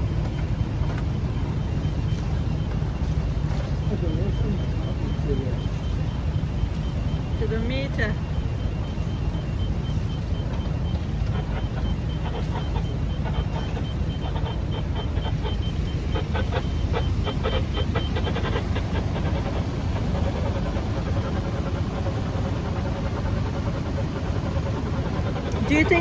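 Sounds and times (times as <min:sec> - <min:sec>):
boat engine running: 0:00.0 - 0:26.0
fast high electronic beeping: 0:00.0 - 0:26.0.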